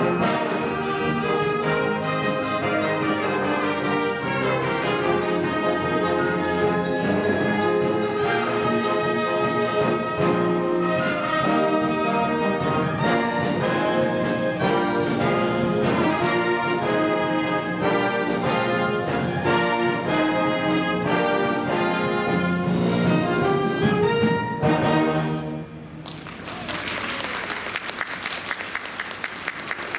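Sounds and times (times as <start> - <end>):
wind band playing: 0.0 - 26.0.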